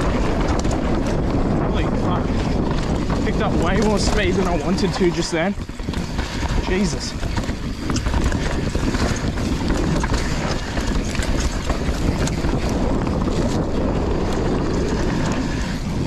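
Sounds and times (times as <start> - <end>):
bike rattling clicks: 0.0 - 16.0
tyres rolling over dirt: 0.0 - 16.0
wind rushing over microphone: 0.0 - 16.0.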